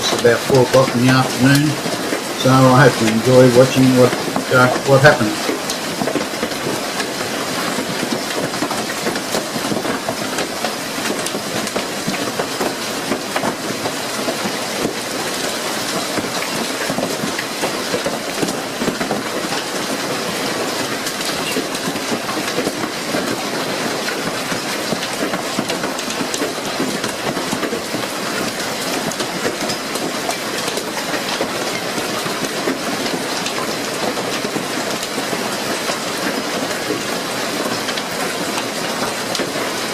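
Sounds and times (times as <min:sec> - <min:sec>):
hail clattering on hard surfaces: 0:00.0 - 0:39.9.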